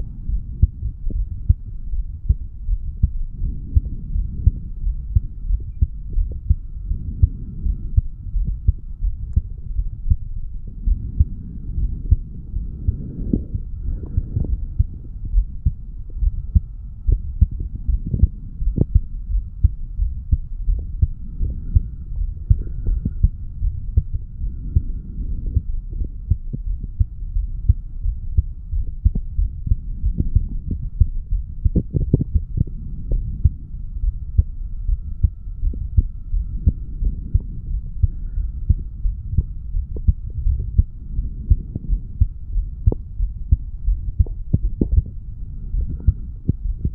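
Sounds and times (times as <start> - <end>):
faint steady hum: 0.0 - 46.9
heartbeat thumps: 0.0 - 46.9.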